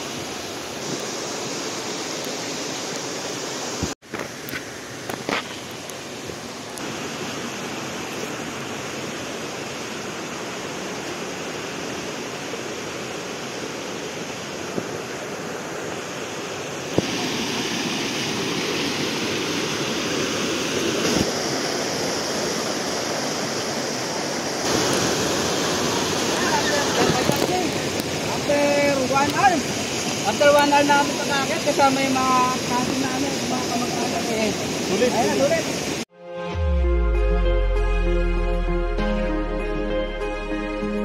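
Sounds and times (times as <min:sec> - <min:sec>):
stream and waterfall over rocks: 0:00.0 - 0:36.1.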